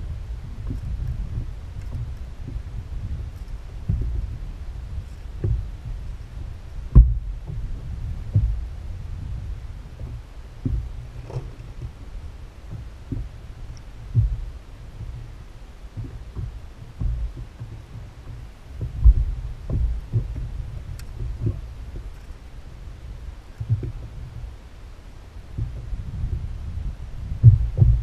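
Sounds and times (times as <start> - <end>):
low rumble of wind: 0.0 - 28.0
waves thumping inflatable boat: 0.0 - 28.0.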